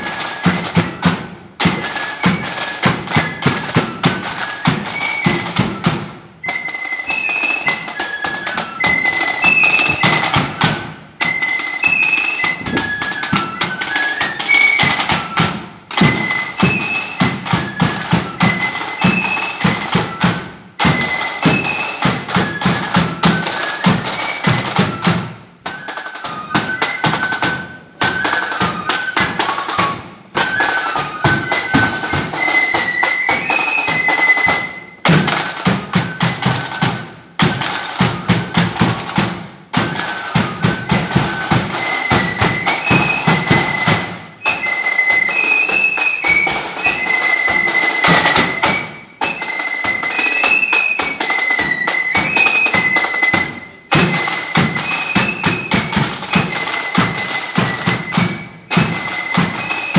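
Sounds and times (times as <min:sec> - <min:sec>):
flutes playing a tune: 0:00.0 - 0:59.9
side drums: 0:00.0 - 0:59.9.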